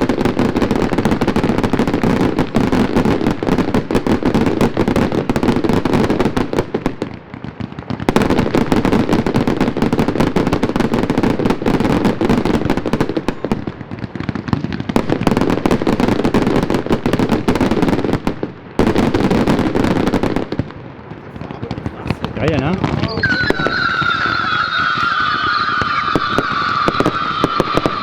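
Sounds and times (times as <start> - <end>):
fireworks bangs and crackle: 0.0 - 28.0.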